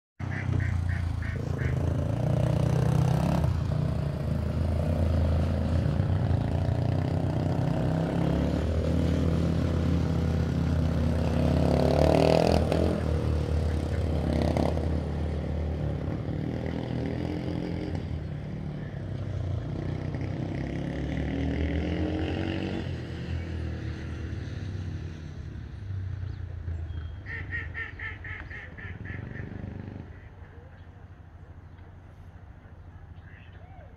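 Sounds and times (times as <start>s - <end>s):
quad bike engine running: 0.2s - 27.2s, 28.5s - 32.8s.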